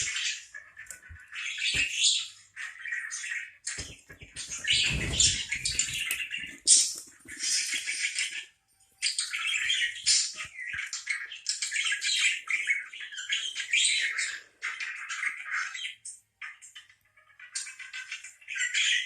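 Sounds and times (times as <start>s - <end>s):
parakeet chattering and chirping: 0.0s - 19.0s.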